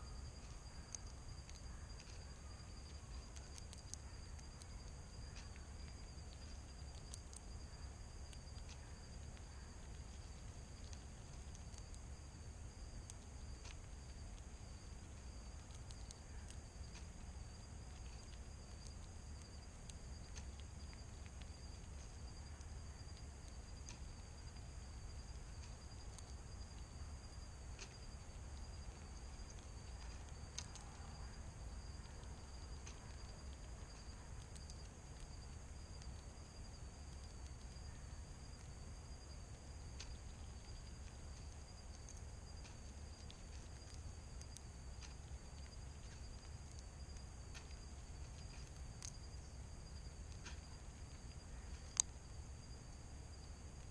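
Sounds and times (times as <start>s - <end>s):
insects chirping: 0.0s - 53.9s
low background rumble: 0.0s - 53.9s
faint clicks: 0.3s - 52.2s.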